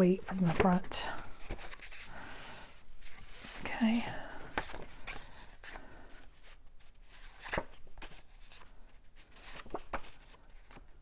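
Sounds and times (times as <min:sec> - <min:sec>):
paper rustling: 0:00.1 - 0:11.0.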